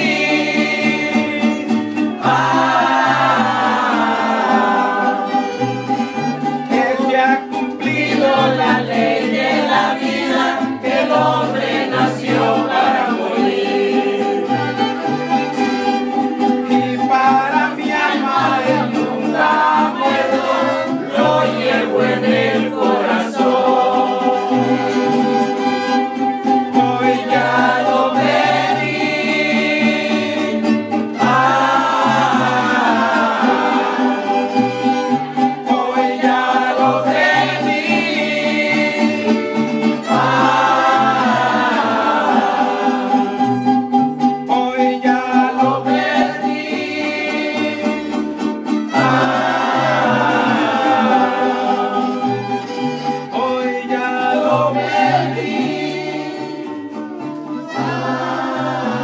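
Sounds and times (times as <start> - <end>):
men singing together: 0.0 - 5.8, 6.6 - 15.0, 16.7 - 25.7, 26.6 - 52.7, 53.3 - 56.9, 57.6 - 59.0
strummed guitars: 0.0 - 59.0
violin: 0.0 - 59.0.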